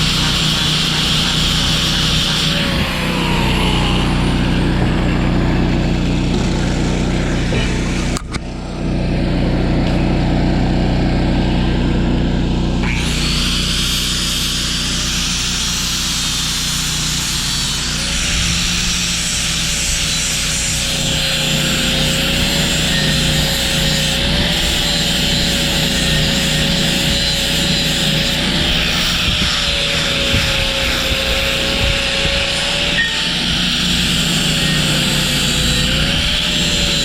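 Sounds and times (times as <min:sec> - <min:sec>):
welder engine running: 0:00.0 - 0:37.0.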